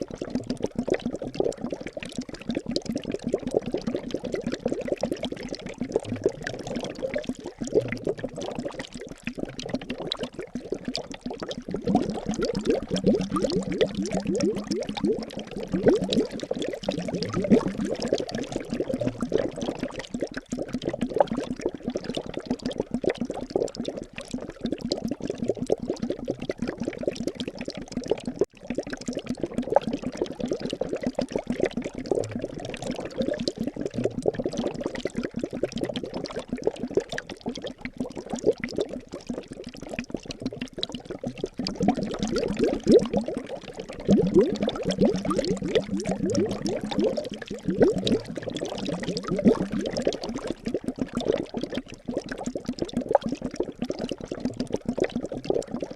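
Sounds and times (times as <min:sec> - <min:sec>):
liquid bubbling and gurgling: 0:00.0 - 0:55.9.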